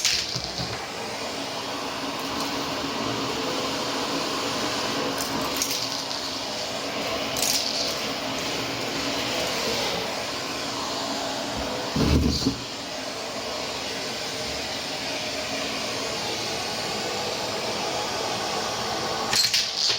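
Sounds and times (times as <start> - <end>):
vacuum cleaner running: 0.0 - 19.9.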